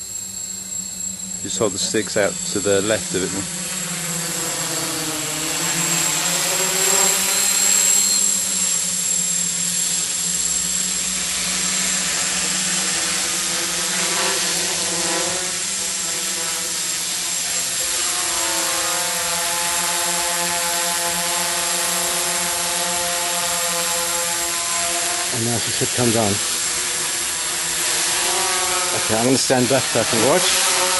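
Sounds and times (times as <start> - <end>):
drone propellers buzzing: 0.0 - 30.9.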